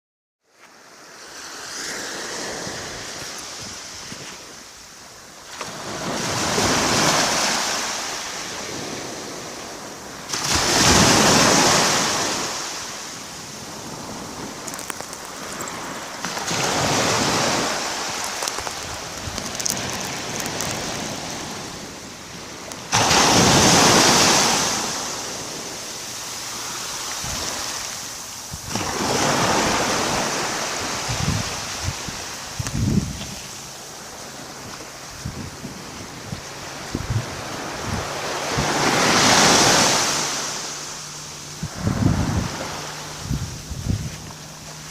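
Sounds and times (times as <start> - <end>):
small waves breaking on shore: 0.5 - 44.9.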